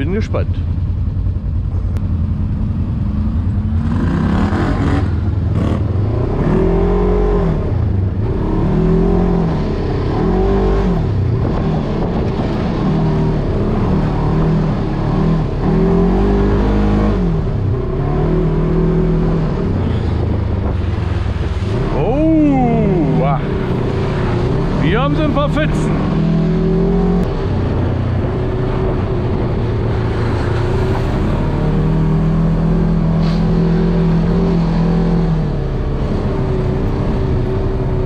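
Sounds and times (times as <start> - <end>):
engine revving: 3.0 - 38.0.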